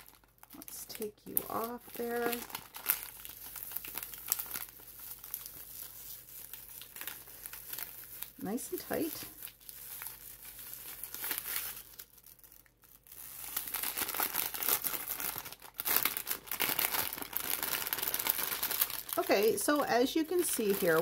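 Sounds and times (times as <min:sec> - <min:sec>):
cellophane bag crinkling: 0:00.0 - 0:21.0.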